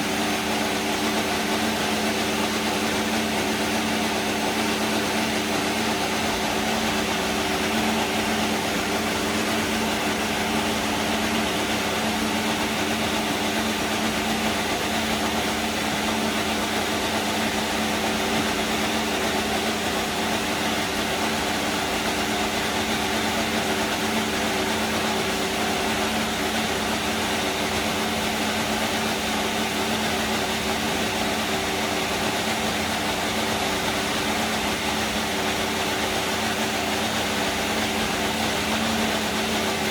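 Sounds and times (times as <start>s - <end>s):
racing car engine idling: 0.0s - 39.9s.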